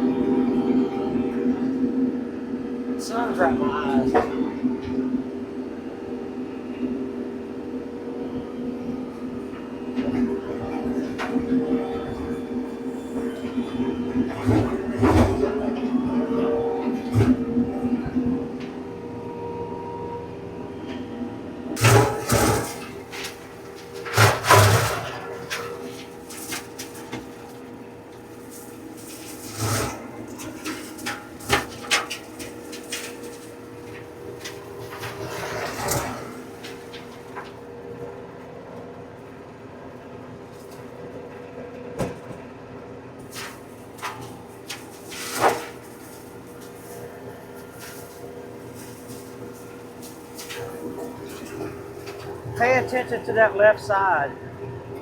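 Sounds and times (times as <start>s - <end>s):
tractor engine and flail mower: 0.0s - 55.0s.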